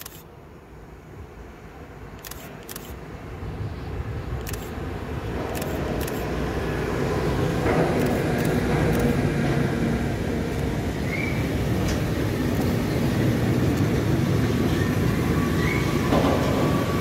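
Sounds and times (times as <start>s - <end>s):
freight train rumbling: 3.1s - 17.0s.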